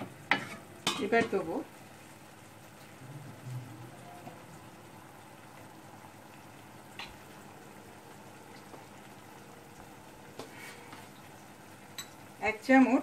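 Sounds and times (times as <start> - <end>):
food bubbling in a pan: 0.0 - 13.0.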